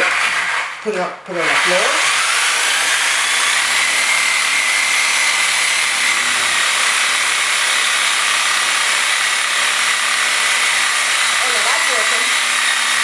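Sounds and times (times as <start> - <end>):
reciprocating saw whining: 0.0 - 13.0.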